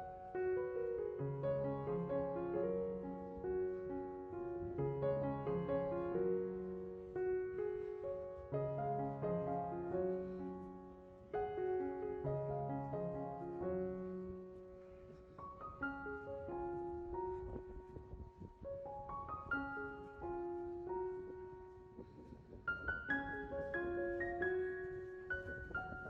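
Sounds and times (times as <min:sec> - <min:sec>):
slow gentle piano melody: 0:00.0 - 0:26.0.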